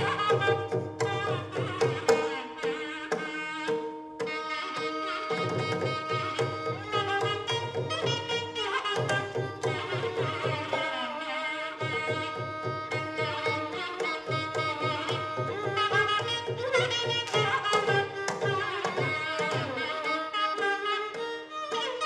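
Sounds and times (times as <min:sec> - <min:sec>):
hand drum strokes: 0:00.0 - 0:10.9, 0:11.8 - 0:20.6
clarinet melody: 0:00.0 - 0:22.0.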